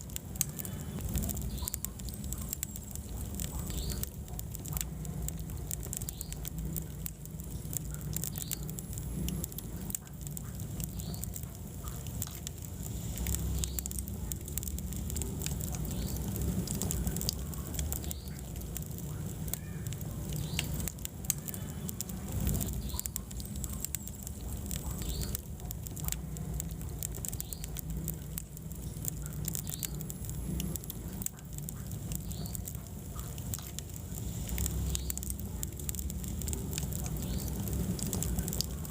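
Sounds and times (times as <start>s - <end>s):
fire crackling and snapping: 0.0s - 38.9s
low rumble of flames: 0.0s - 38.9s.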